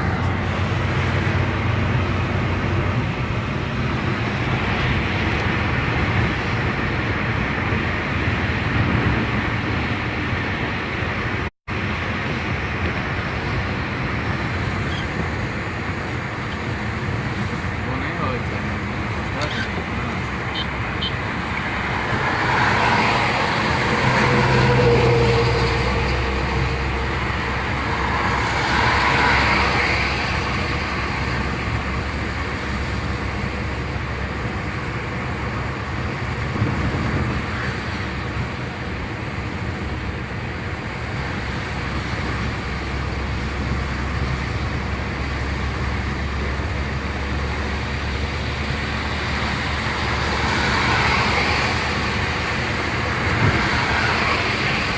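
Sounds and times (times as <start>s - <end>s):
car engine and tyre noise: 0.0s - 54.9s.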